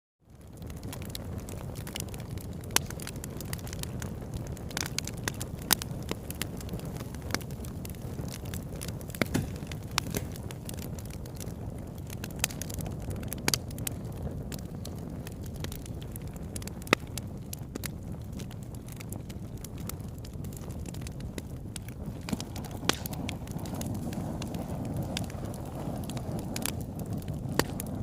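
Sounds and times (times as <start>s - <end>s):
campfire flames rushing: 0.3s - 28.0s
fire crackling and popping: 0.3s - 28.0s.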